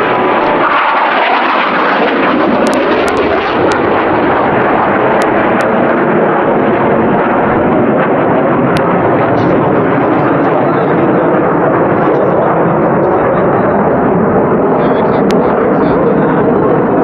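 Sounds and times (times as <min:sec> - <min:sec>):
jet engines in flight: 0:00.0 - 0:17.0.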